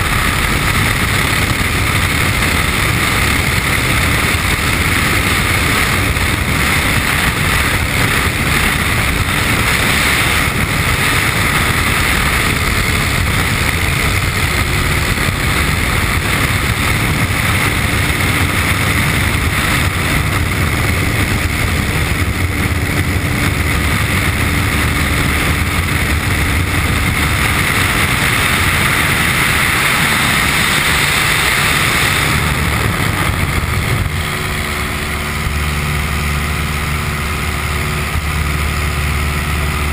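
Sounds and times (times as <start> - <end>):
air rushing through cabin: 0.0 - 39.9
airplane engine and propeller: 0.0 - 39.9.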